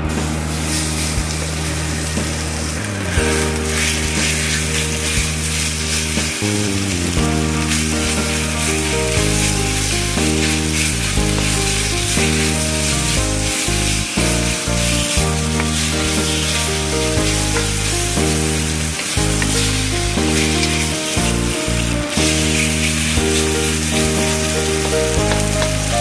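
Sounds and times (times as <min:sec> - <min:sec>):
background music of held notes: 0:00.0 - 0:26.0
meat sizzling in a wok: 0:00.1 - 0:26.0.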